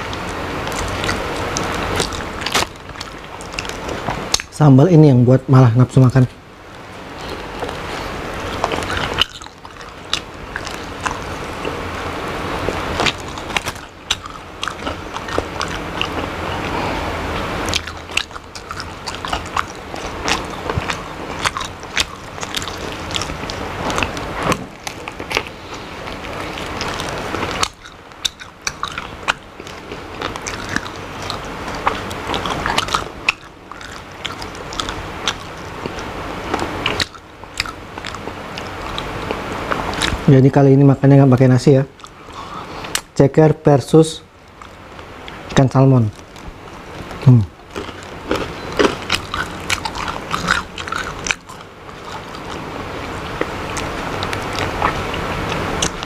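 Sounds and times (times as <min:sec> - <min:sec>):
crunchy chewing: 0:00.0 - 0:05.0, 0:06.1 - 0:40.6, 0:41.8 - 0:43.2, 0:44.4 - 0:56.0.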